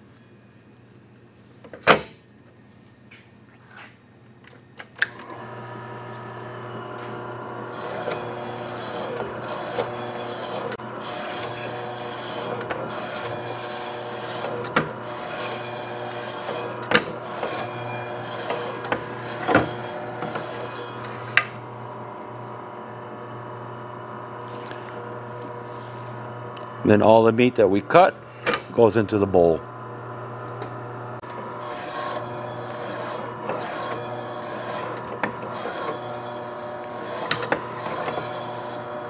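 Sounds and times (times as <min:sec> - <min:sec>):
meat slicer motor hum: 0:05.1 - 0:39.0.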